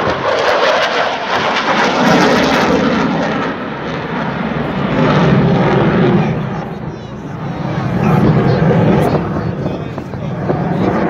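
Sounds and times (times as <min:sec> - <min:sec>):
fighter jet flying past: 0:00.0 - 0:11.0.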